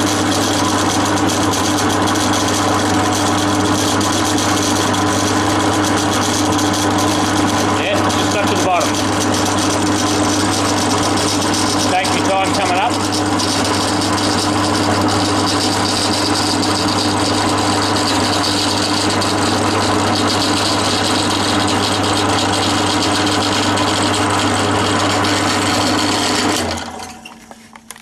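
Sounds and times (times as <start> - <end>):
cutter scraping metal: 0.0 - 28.0
drill press motor hum: 0.0 - 28.0.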